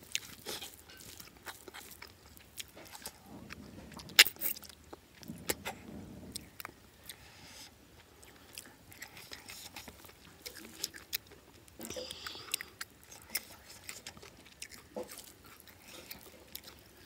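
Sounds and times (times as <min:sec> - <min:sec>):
chewing and mouth smacks: 0:00.0 - 0:05.7, 0:08.0 - 0:17.0.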